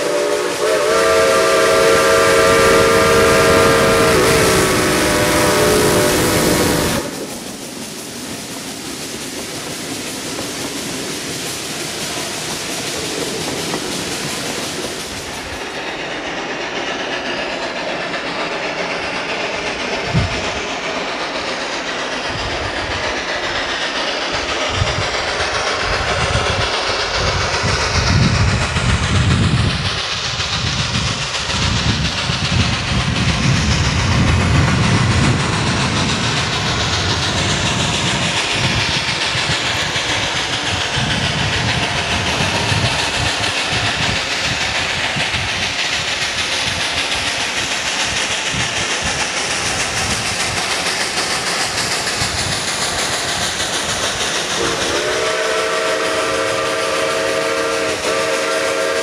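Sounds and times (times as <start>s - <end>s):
train rolling noise: 0.0s - 59.0s.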